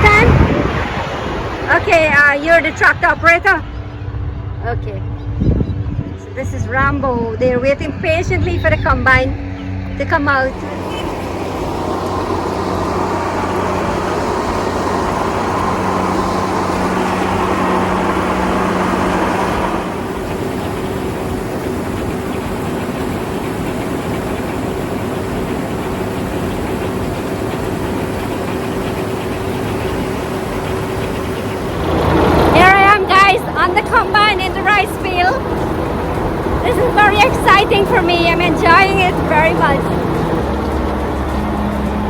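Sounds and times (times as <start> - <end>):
combine harvester engine droning: 0.0 - 42.0.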